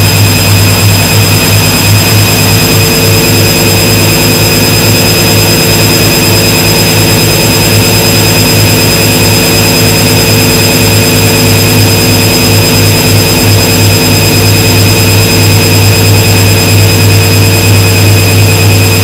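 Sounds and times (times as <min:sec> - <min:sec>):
thin steady whine: 0:00.0 - 0:19.0
washing machine motor hum: 0:00.0 - 0:19.0.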